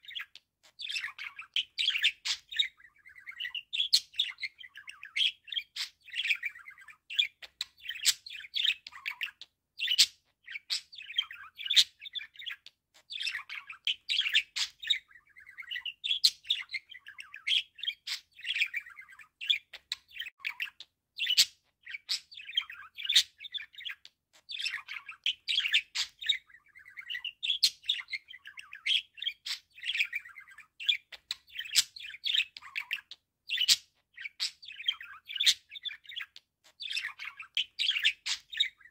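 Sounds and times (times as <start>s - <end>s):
budgerigar chirping and warbling: 0.0s - 38.9s.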